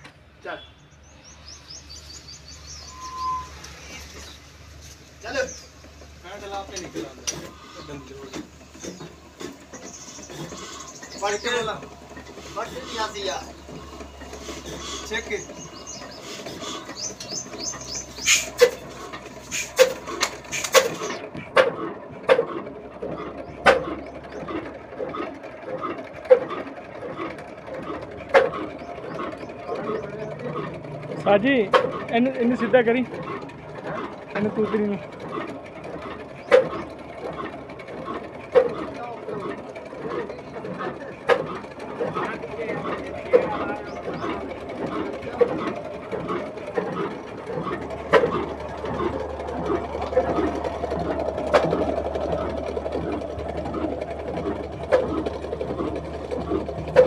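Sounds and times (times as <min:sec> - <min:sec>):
diesel engine clattering: 0:00.0 - 0:57.0.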